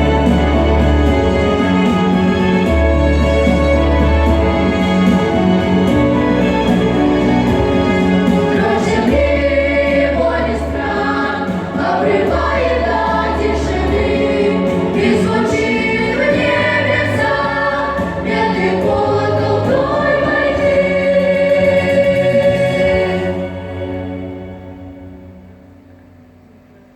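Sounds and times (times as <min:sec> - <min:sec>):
choral singing: 0:00.0 - 0:25.0
deep bass line: 0:00.0 - 0:26.3
sustained instrumental chords: 0:00.0 - 0:26.9.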